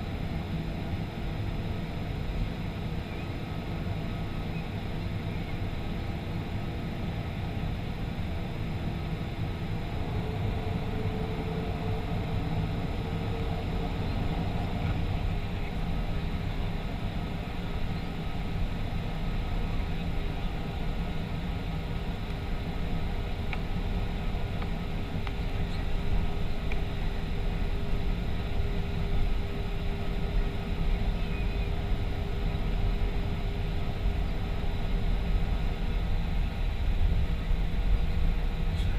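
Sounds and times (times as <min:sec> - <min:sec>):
airplane engine rumble: 0:00.0 - 0:38.9
faint steady tones: 0:00.0 - 0:38.9.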